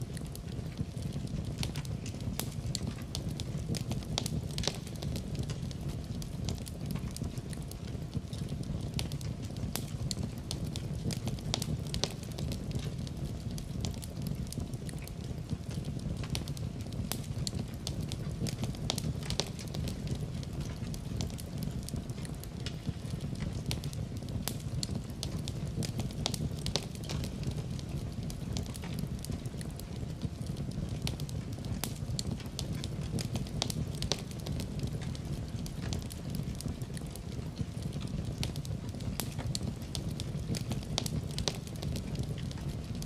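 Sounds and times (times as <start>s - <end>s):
fire crackles and pops: 0.0s - 43.0s.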